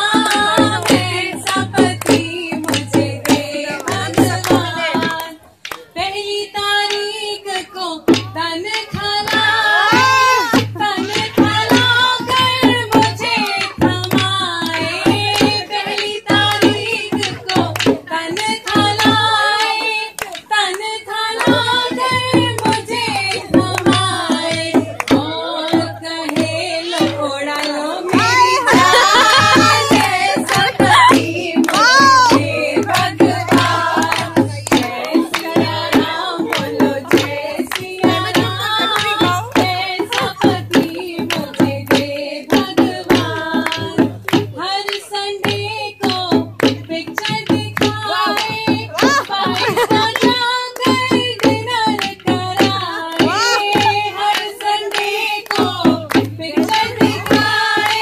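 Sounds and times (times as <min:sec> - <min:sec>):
drumbeats: 0:00.0 - 0:58.0
hand claps: 0:00.0 - 0:58.0
woman singing into microphone: 0:00.0 - 0:58.0.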